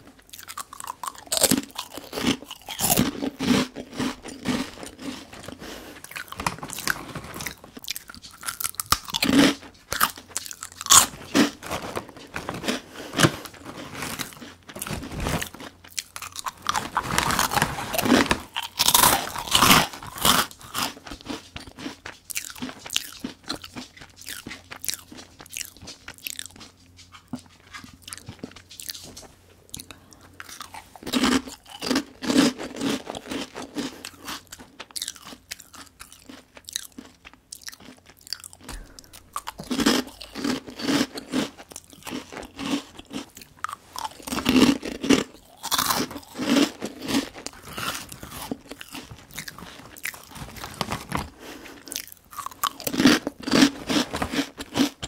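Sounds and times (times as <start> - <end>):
crunching and chewing crisp snack: 0.0 - 55.0.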